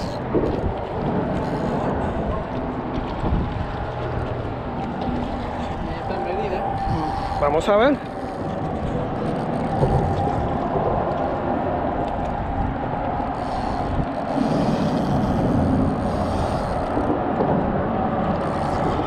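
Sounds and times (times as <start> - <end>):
traffic rumble and tyre hum: 0.0 - 19.0.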